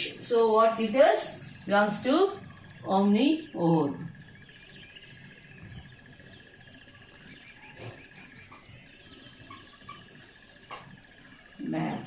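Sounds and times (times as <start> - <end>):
steady high-pitched hum: 0.0 - 12.0.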